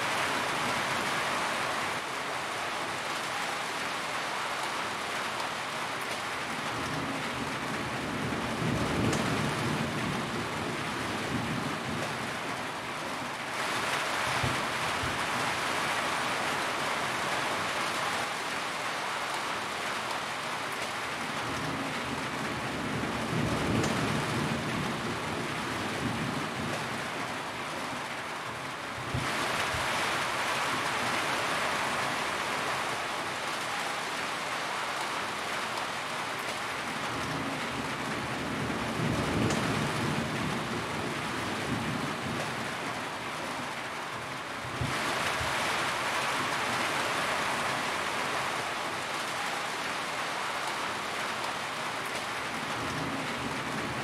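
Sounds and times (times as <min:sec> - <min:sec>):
rain on a metal roof: 0:00.0 - 0:54.0.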